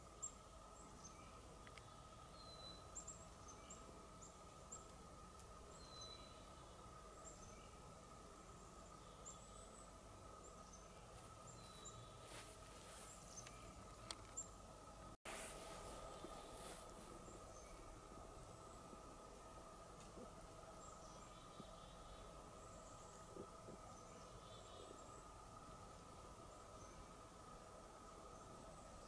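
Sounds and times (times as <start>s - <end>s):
small birds chirping: 0.0s - 14.8s, 15.6s - 29.0s
faint steady hum: 0.0s - 29.0s.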